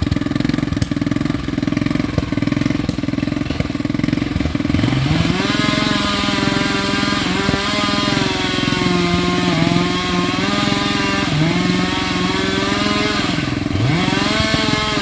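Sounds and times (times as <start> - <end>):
chainsaw running at high revs: 0.0 - 15.0
winch engine running: 0.0 - 15.0.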